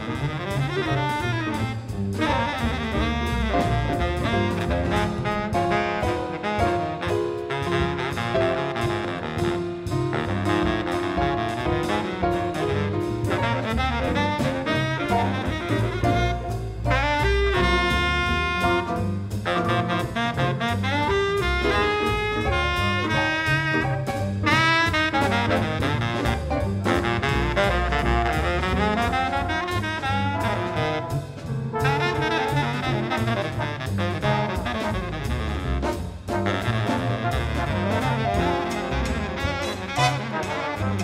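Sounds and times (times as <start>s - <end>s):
baritone saxophone solo: 0.0s - 41.0s
double bass: 0.0s - 41.0s
drum kit: 0.0s - 41.0s
piano: 0.0s - 41.0s.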